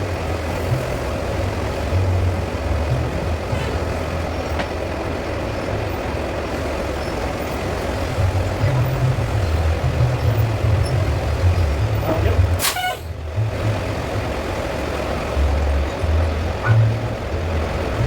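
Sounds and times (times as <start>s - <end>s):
heavy engine rumbling: 0.0s - 18.0s.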